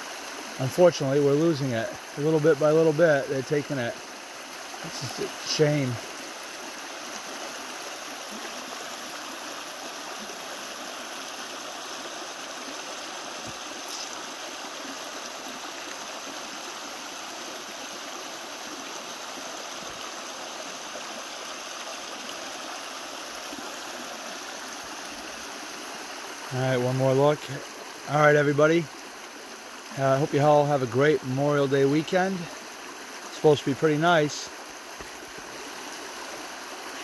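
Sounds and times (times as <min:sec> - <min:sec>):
brook running over rocks: 0:00.0 - 0:37.0.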